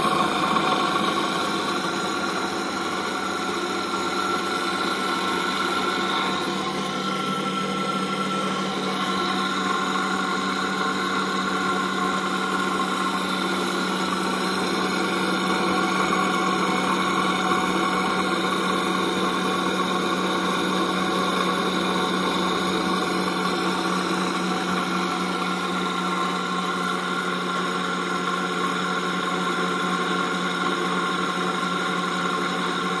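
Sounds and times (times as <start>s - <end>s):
spinning rotor whir: 0.0s - 29.4s.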